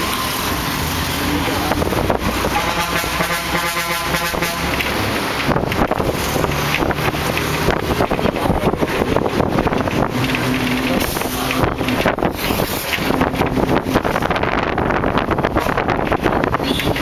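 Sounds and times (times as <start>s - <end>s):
wind buffeting microphone: 0.0s - 2.8s, 4.6s - 17.0s
road noise: 0.0s - 17.0s
vehicle engine drone: 0.0s - 17.0s.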